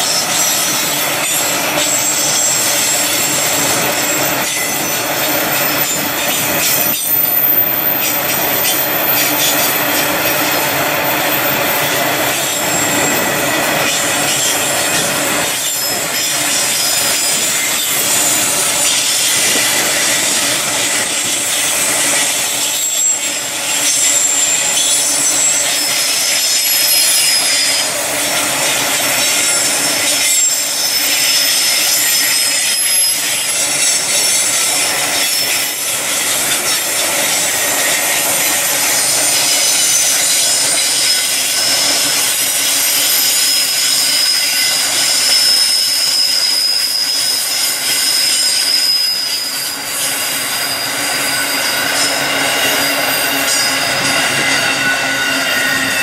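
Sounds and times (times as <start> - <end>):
high wheel squeals: 0.0 - 56.0
train wheels rushing on track: 0.0 - 56.0.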